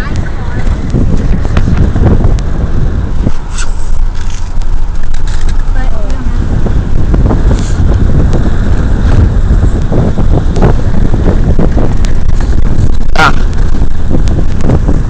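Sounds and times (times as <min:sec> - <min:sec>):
vehicle rumbling over dirt: 0:00.0 - 0:15.0
wind buffeting microphone: 0:00.0 - 0:15.0.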